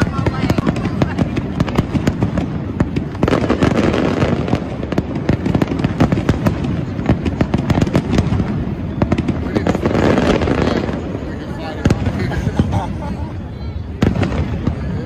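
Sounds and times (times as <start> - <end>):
firework shell bursts and crackles: 0.0 - 13.0.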